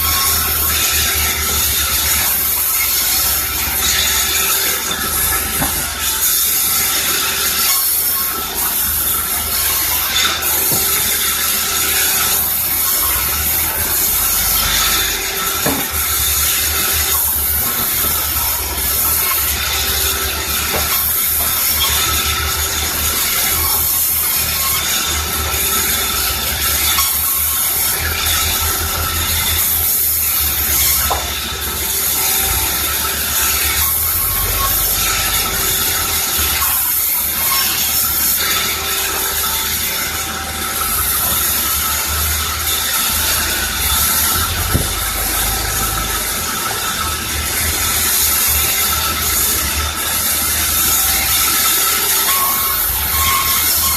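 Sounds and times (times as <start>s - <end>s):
saw cutting through timber: 0.0s - 53.9s
sawmill machinery running: 0.0s - 53.9s.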